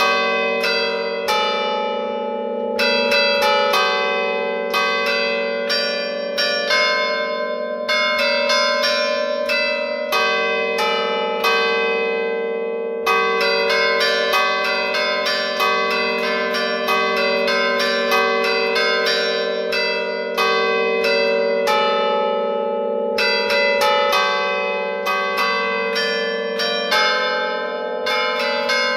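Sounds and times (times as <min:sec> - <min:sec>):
church bells ringing tune: 0:00.0 - 0:28.9.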